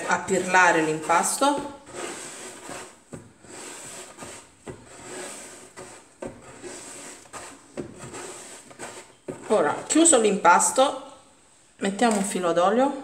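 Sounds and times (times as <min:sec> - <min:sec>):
hands rubbing dough: 0:00.0 - 0:10.8.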